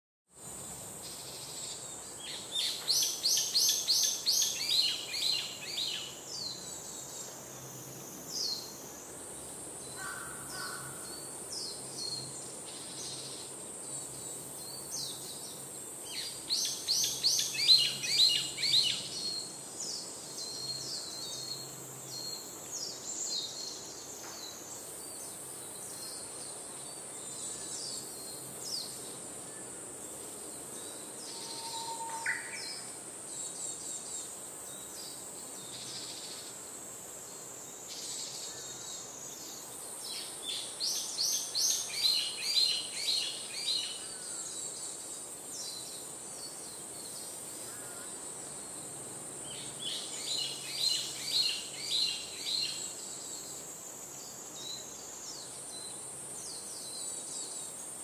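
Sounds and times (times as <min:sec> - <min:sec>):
steady high hiss: 0:00.3 - 0:58.0
songbirds chirping: 0:00.5 - 0:58.0.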